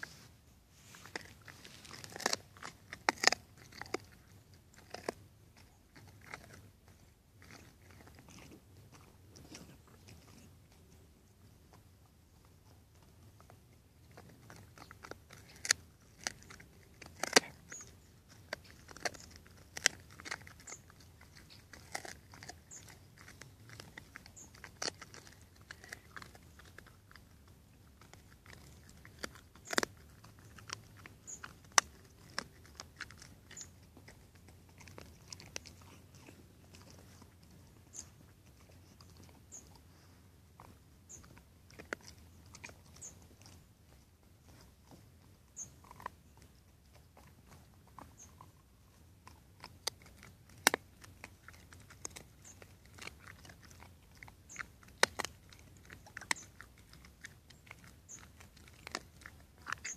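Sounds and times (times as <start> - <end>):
dog gnawing a bone: 0.0 - 59.9.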